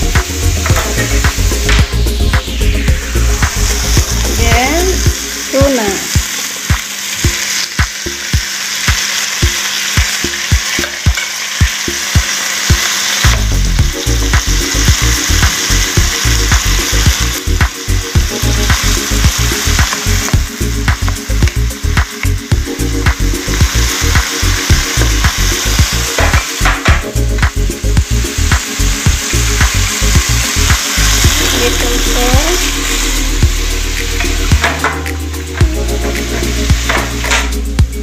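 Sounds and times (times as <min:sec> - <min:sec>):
food sizzling in pan: 0:00.0 - 0:38.0.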